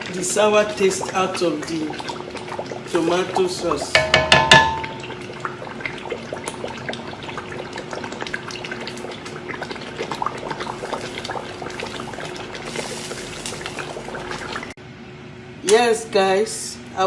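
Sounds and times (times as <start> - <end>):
sauce sizzling and bubbling in oil: 0.0 - 14.8.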